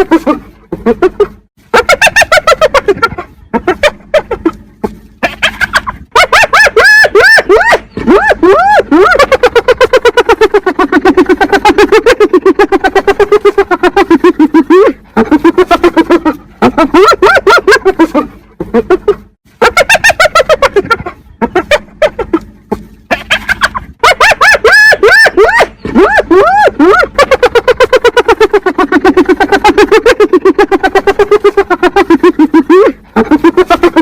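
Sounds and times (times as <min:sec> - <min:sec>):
hyena giggling: 0:00.0 - 0:34.0.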